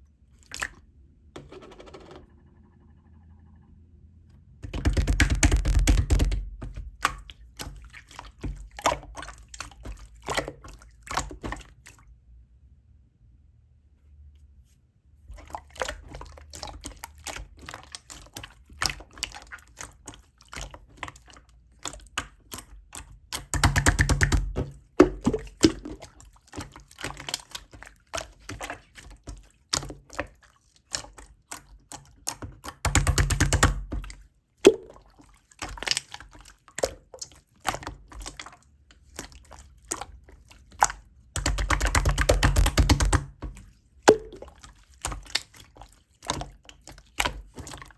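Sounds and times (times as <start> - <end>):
fast stirring in a cup: 4.6 - 11.9, 15.3 - 47.9.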